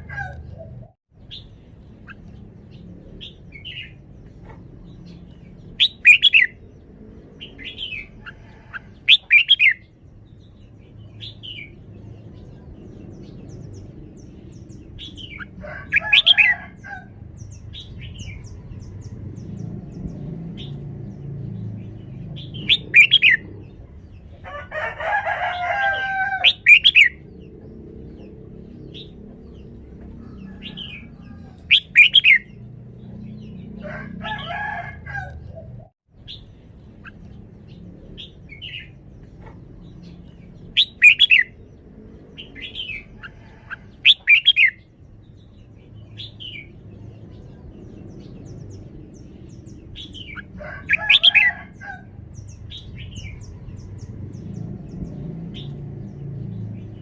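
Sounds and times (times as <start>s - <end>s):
bird singing chirpy phrases: 0.0s - 24.4s, 26.3s - 33.8s, 35.6s - 43.3s, 44.0s - 57.0s.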